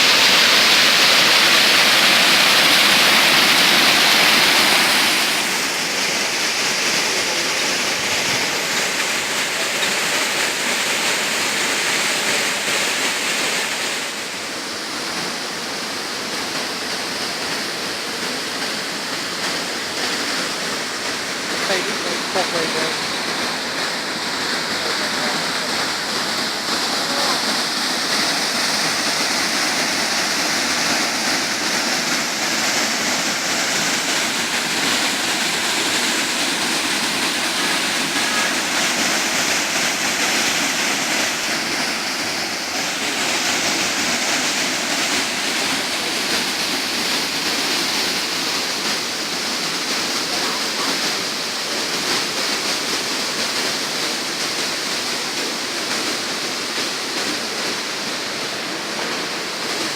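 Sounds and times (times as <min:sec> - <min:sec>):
waterfall pouring into pool: 0:00.0 - 0:59.9.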